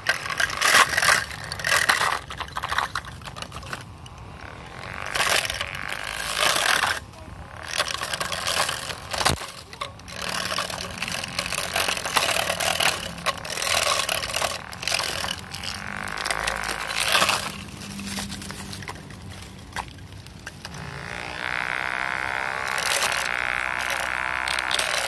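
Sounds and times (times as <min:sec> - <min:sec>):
blade cutting grass: 0:00.0 - 0:25.0
faint motor hum: 0:00.0 - 0:25.0.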